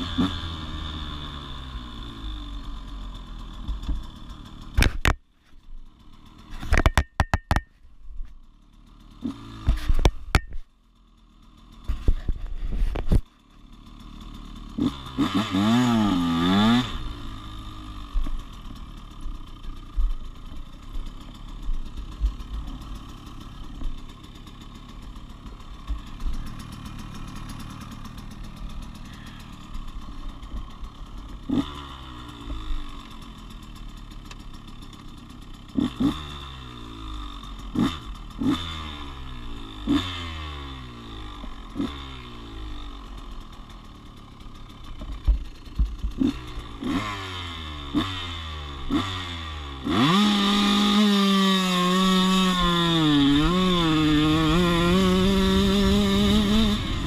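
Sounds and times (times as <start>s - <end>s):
motocross bike engine revving: 0.0s - 5.2s, 5.8s - 7.6s, 8.3s - 57.0s.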